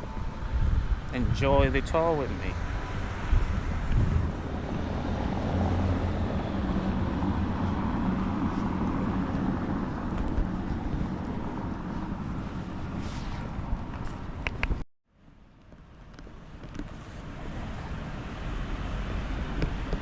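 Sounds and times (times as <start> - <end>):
vehicle engine hum: 0.0 - 14.8, 15.6 - 20.0
road noise: 0.0 - 20.0.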